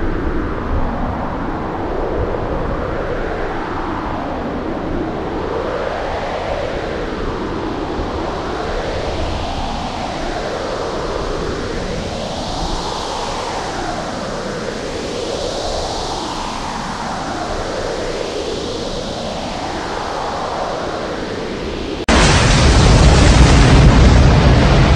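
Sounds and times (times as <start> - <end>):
howling storm wind: 0.0 - 24.9.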